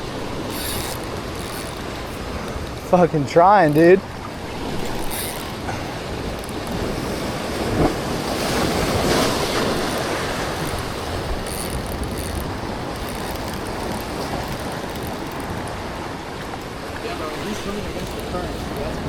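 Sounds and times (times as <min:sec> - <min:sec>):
ocean waves: 0:00.0 - 0:19.0
rushing water: 0:00.0 - 0:19.0
wind buffeting microphone: 0:00.0 - 0:19.0.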